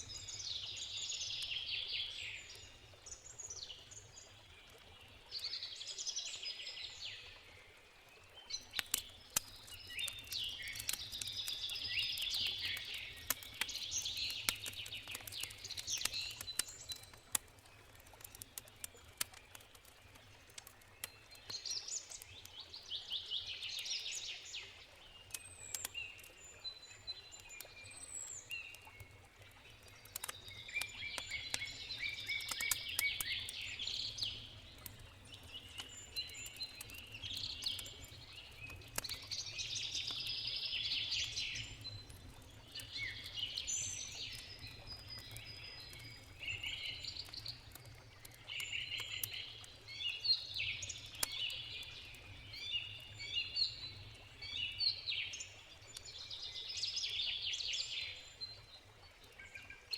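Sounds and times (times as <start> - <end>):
campfire crackling and popping: 0.0 - 6.5, 7.4 - 59.9
songbirds singing: 0.0 - 59.9.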